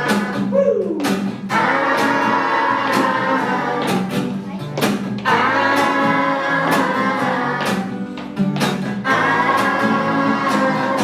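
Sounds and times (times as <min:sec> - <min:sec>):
plucked guitar music with beat: 0:00.0 - 0:11.0.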